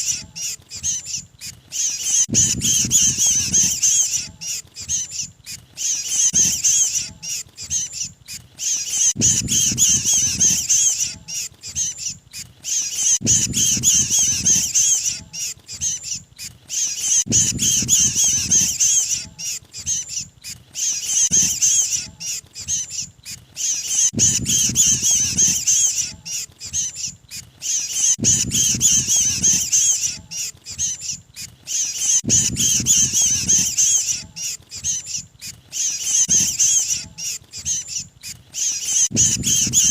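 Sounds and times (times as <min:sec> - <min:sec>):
bird distress calls harsh chattering: 0:00.0 - 0:39.9.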